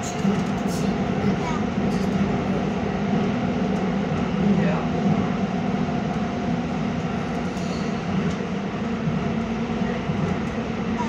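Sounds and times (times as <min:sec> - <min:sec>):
metro train rumbling in tunnel: 0:00.0 - 0:11.0.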